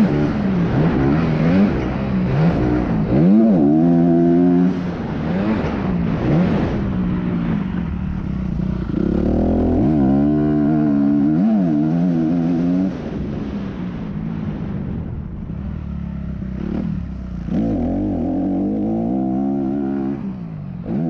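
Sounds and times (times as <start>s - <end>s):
dirt bike engine revving: 0.0s - 13.4s, 16.3s - 21.0s.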